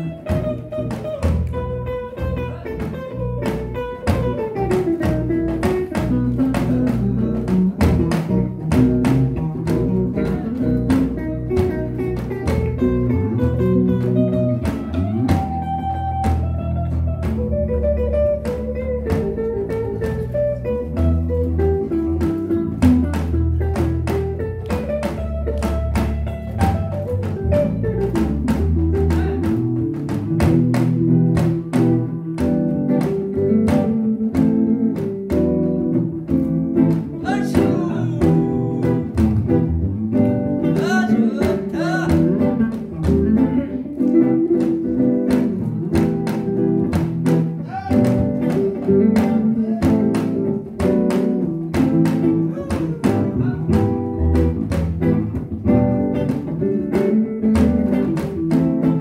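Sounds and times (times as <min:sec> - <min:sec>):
electric bass guitar: 0:00.0 - 0:59.0
percussion beat: 0:00.0 - 0:59.0.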